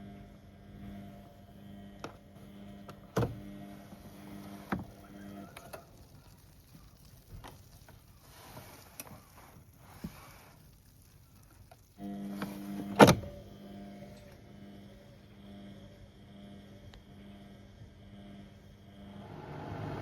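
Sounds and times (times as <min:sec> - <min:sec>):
washing machine motor humming: 0:00.0 - 0:08.5, 0:11.1 - 0:20.0.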